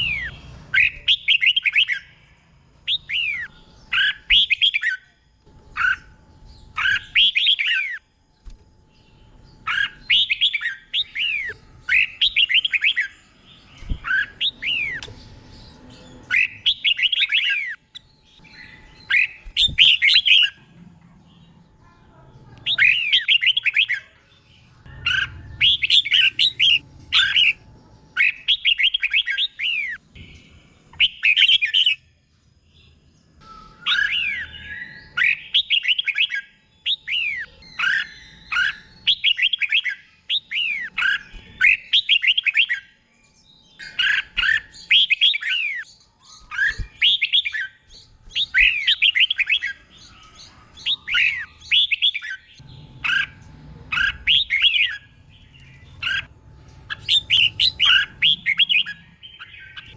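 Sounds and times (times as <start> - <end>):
bulbul singing: 0.0 - 59.9.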